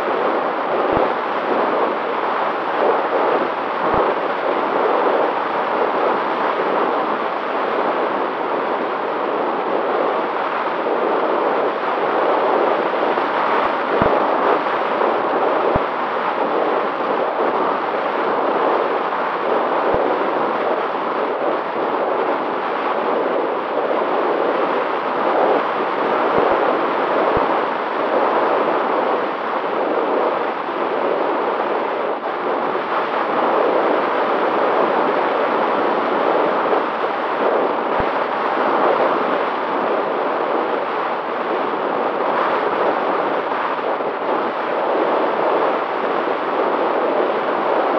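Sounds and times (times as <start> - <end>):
faint steady hum: 0.0 - 47.9
wind rushing over microphone: 0.0 - 47.9.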